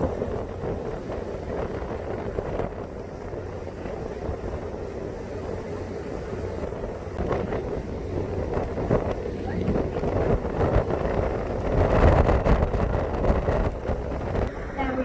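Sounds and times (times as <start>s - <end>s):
boat engine rumble: 0.0s - 15.0s
water rushing past hull: 0.0s - 15.0s.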